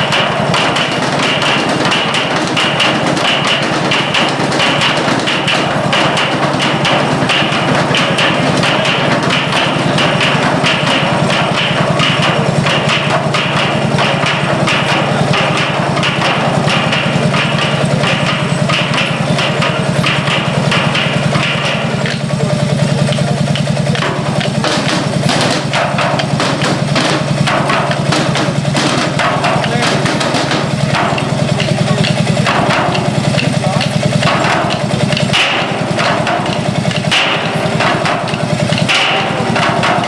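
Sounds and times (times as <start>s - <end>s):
drumming on oil barrels: 0.0s - 40.0s
stationary engine humming: 0.0s - 40.0s.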